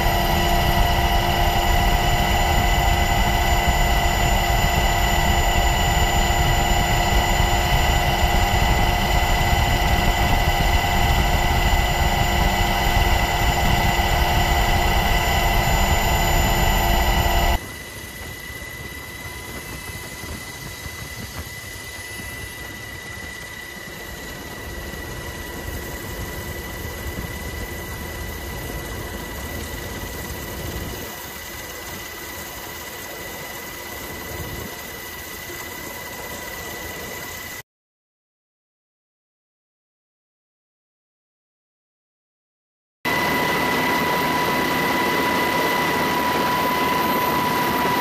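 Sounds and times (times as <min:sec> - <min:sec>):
aircraft engine drone: 0:00.0 - 0:37.6, 0:43.1 - 0:48.0.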